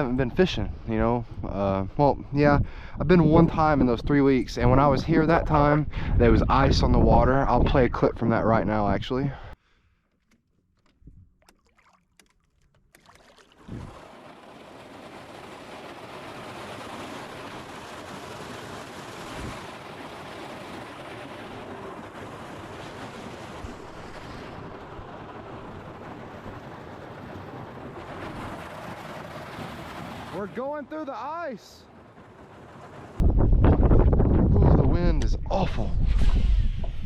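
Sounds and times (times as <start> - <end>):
wind blowing across microphone: 0.0 - 9.5, 13.6 - 14.1, 15.6 - 37.0.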